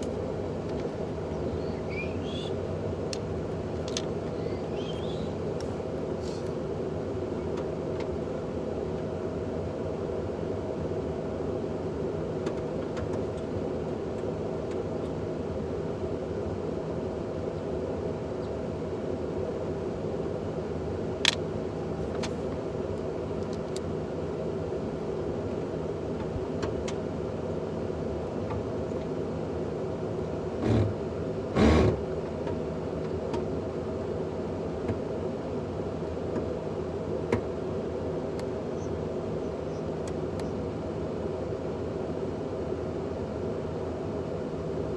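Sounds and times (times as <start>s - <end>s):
mechanical hum: 0.0s - 44.9s.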